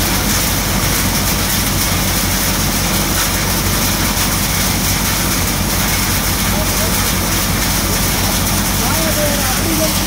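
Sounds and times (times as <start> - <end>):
thresher machine droning: 0.0 - 10.0.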